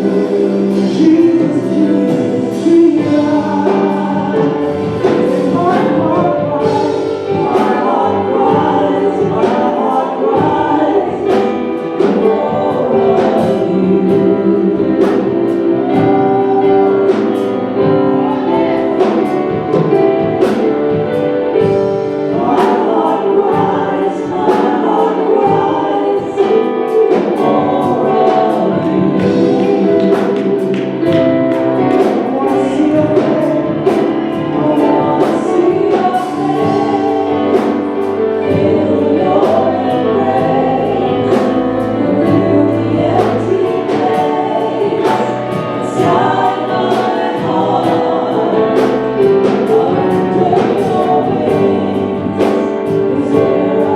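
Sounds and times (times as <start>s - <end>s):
gospel choir singing with band: 0.0s - 53.9s
steady drum beat: 0.0s - 53.9s.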